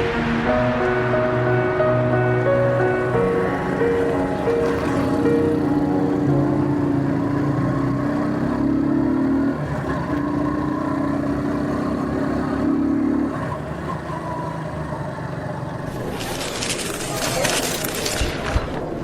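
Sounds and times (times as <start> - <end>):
motor vehicle engine drone: 0.0 - 17.0.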